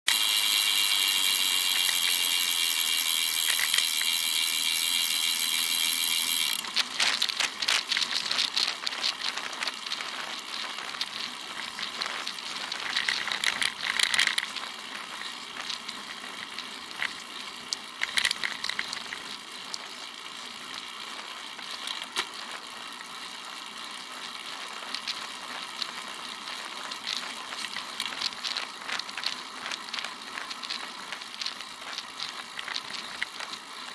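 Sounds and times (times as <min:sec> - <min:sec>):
wind and road noise: 0:05.9 - 0:33.9.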